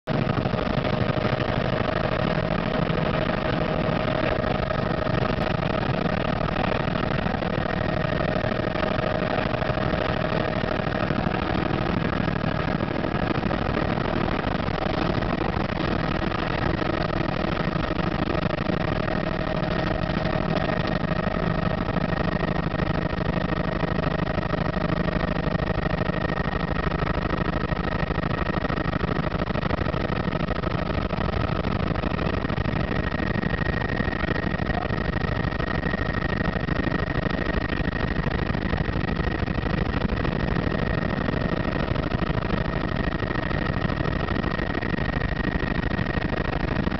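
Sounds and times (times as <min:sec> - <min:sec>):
helicopter engine and rotor drone: 0:00.0 - 0:46.9
high whine: 0:00.1 - 0:46.9.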